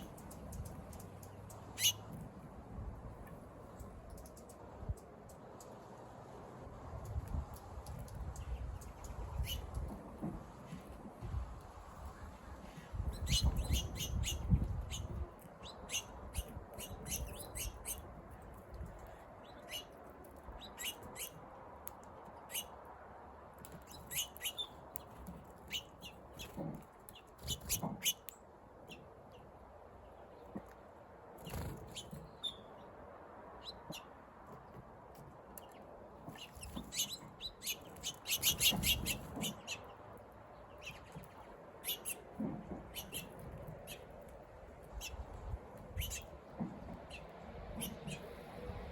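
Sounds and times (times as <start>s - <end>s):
small birds chirping: 0.0s - 2.3s, 3.1s - 5.8s, 7.0s - 10.8s, 12.0s - 22.8s, 23.6s - 30.8s, 31.4s - 34.8s, 35.4s - 48.8s.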